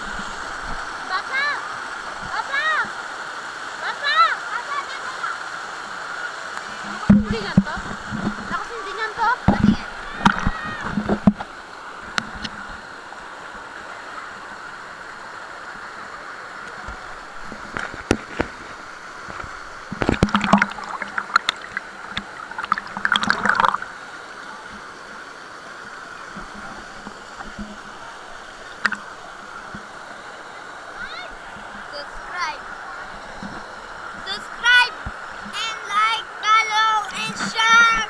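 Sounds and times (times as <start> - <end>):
running water: 0.0 - 38.0.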